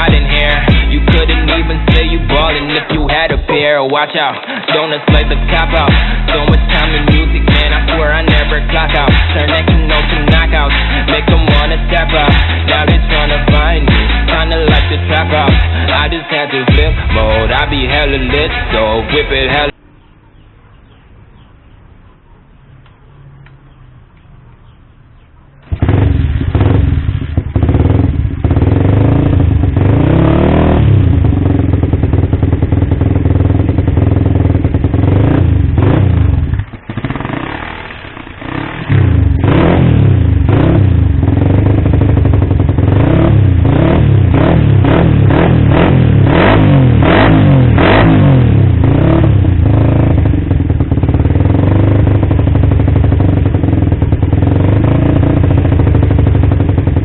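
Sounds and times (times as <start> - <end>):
motorcycle engine revving: 0.0 - 3.6, 5.0 - 57.0.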